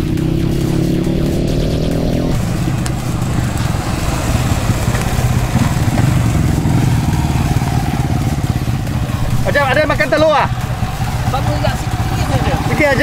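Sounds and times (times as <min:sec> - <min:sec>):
motorcycle engine running: 0:00.0 - 0:13.0
music: 0:00.0 - 0:13.0.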